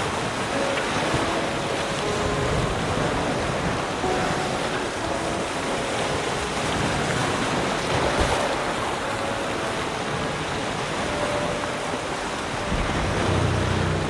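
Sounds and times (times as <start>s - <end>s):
ocean surf on a beach: 0.0s - 14.0s.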